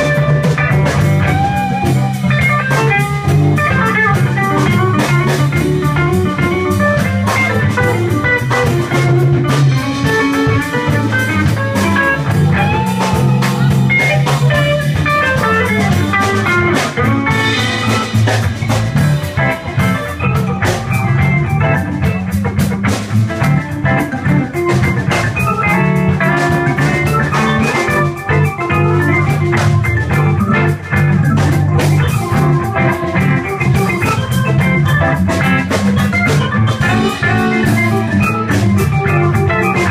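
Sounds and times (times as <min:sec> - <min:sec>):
drum kit keeping time: 0:00.0 - 0:39.9
electric guitar: 0:00.0 - 0:39.9
keyboard: 0:00.0 - 0:39.9
repeating bass line: 0:00.0 - 0:39.9.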